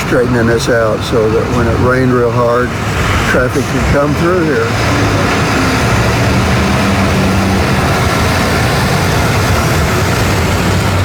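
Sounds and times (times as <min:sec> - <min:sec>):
road traffic rumble: 0:00.0 - 0:11.0
vehicle engine humming: 0:00.0 - 0:11.0.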